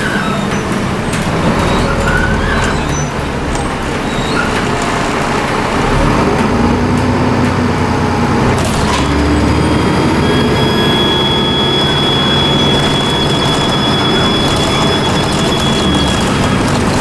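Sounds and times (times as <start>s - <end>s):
bus diesel engine running: 0.0s - 17.0s
faint turbo whistling: 0.0s - 17.0s
road noise: 0.0s - 17.0s.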